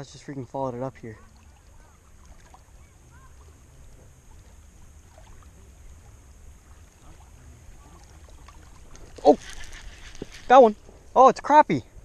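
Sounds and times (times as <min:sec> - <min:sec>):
small waves lapping on rocks: 0:00.8 - 0:11.1.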